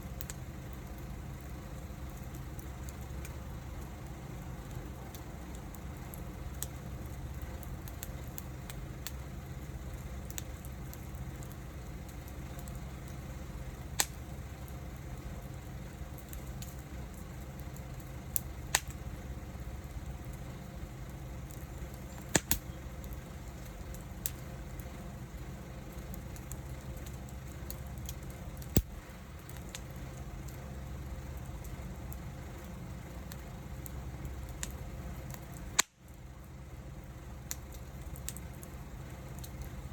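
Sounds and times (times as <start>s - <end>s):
wood fire burning: 0.0s - 39.9s
wood popping and crackling: 0.1s - 39.9s.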